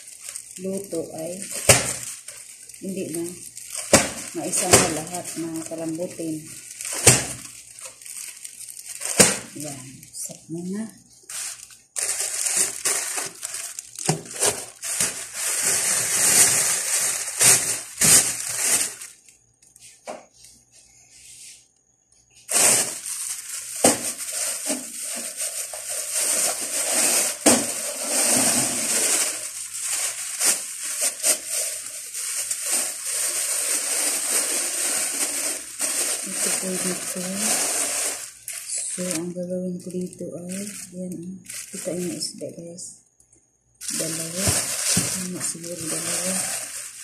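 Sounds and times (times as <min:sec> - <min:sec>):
plastic bags crinkling: 0:00.0 - 0:19.8, 0:22.5 - 0:42.9, 0:43.8 - 0:47.0.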